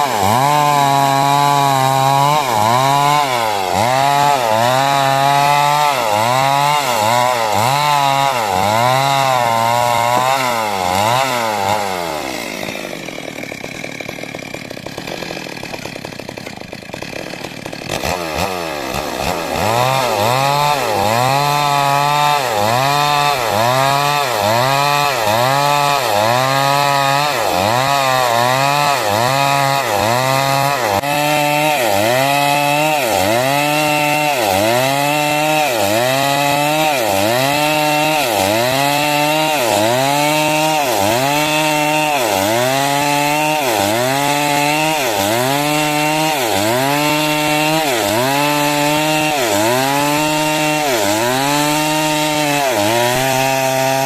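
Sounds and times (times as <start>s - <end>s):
chainsaw cutting wood: 0.0s - 54.0s
chainsaw idling: 0.0s - 54.0s.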